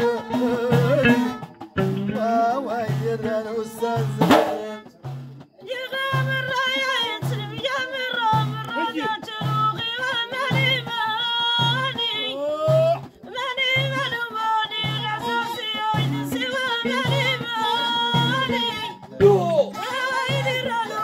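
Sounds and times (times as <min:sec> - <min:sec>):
frame drums beating: 0:00.0 - 0:21.0.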